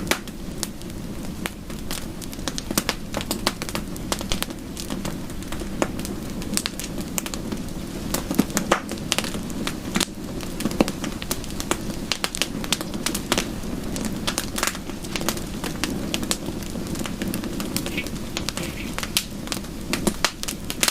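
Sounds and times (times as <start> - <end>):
fire pops and snaps: 0.0 - 20.9
low rumble of flames: 0.0 - 20.9.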